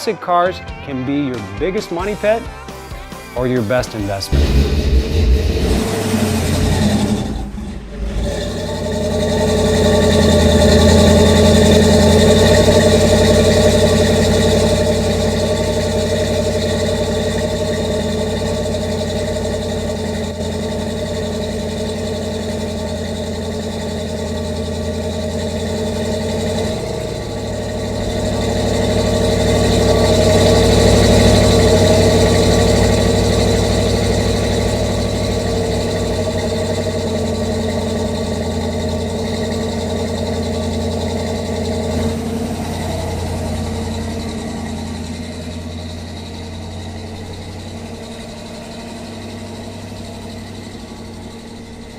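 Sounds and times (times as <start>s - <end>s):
pickup truck engine running: 0.0s - 51.9s.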